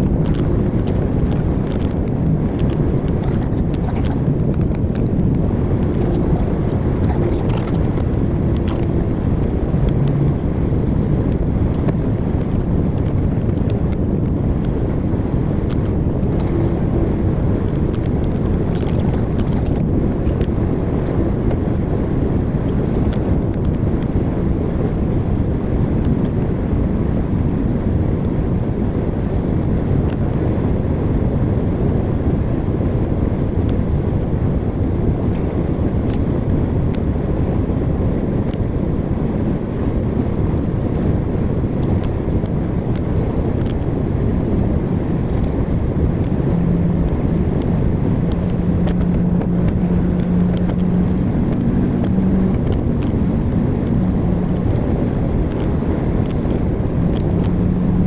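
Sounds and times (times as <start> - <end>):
low steady hum: 0.0 - 58.0
vehicle road and engine noise: 0.0 - 58.0.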